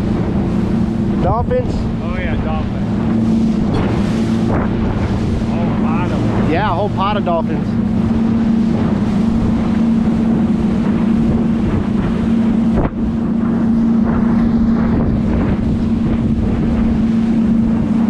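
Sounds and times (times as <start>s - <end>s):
outboard motor running: 0.0s - 18.0s
wind buffeting microphone: 0.0s - 18.0s.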